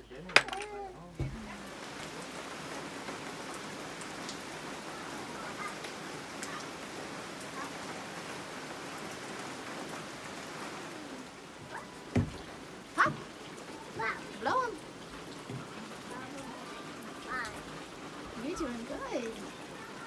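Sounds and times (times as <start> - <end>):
rain on forest canopy: 0.0 - 20.0
raindrops ticking: 0.0 - 20.0.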